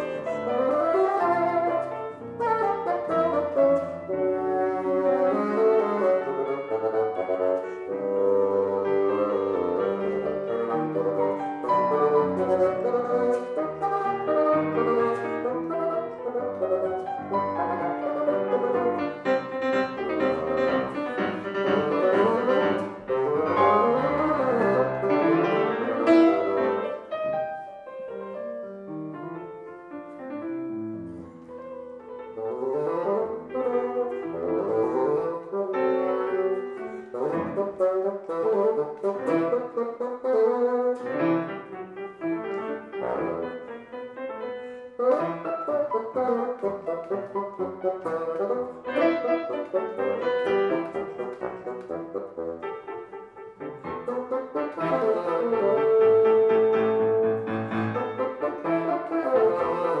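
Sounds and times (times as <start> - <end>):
bassoon melody: 0.0 - 60.0
piano chords: 0.0 - 60.0.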